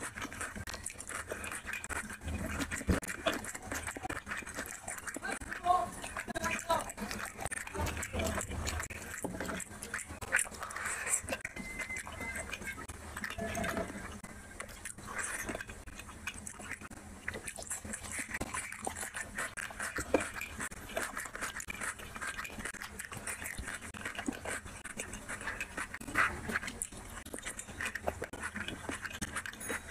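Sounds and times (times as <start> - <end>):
fingers squishing food on plate: 0.0 - 29.9
wet chewing and lip-smacking: 0.0 - 29.9.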